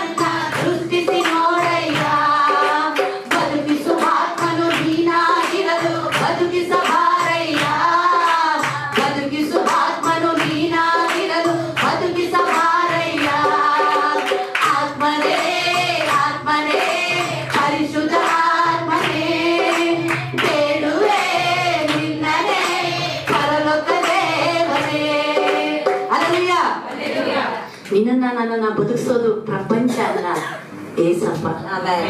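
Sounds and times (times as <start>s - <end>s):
backing music with steady beat: 0.0s - 26.2s.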